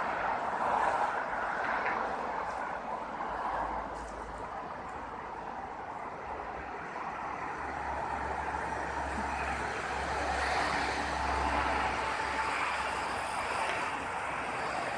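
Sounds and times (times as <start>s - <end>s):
road noise: 0.0s - 14.9s.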